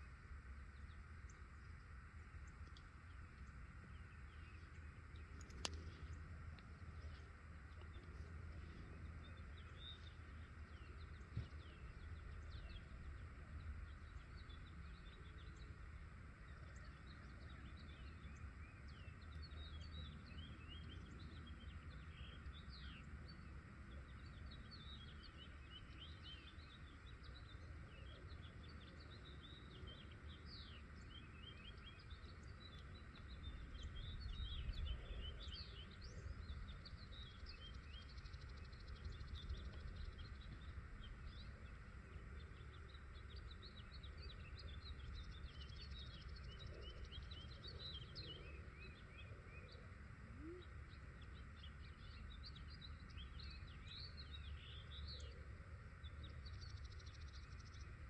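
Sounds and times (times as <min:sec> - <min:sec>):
low background rumble: 0:00.0 - 0:58.0
songbirds chirping: 0:00.0 - 0:58.0.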